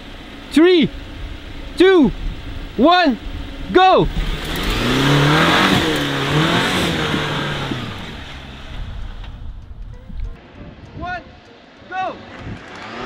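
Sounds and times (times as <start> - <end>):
car engine accelerating: 0.0 - 10.4, 12.3 - 13.0.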